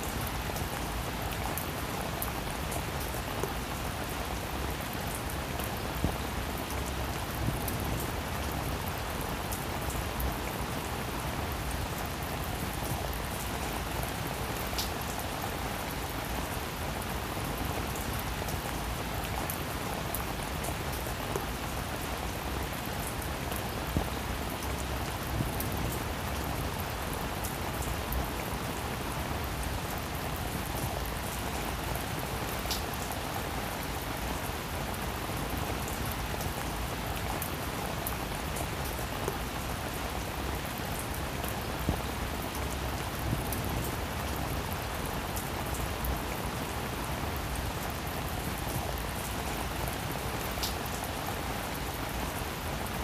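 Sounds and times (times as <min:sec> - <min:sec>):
heavy rain on leaves and grass: 0:00.0 - 0:53.0.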